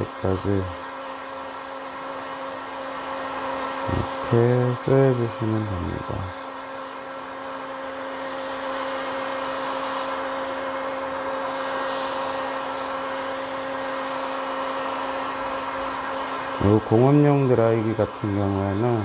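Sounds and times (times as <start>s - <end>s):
heat gun blowing air: 0.0s - 19.0s.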